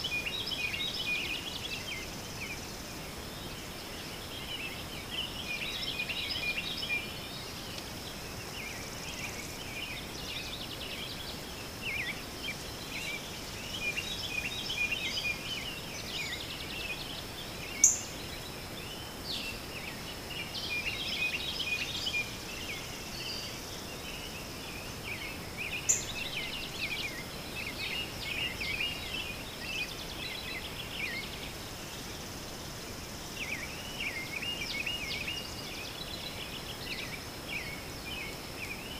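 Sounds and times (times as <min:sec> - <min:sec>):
faint hiss: 0:00.0 - 0:38.9
small birds chirping: 0:00.0 - 0:38.9.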